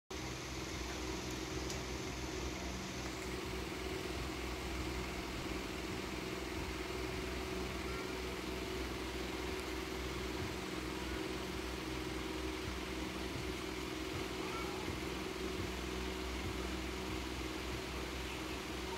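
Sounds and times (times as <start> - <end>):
low machine hum: 0.1 - 18.9.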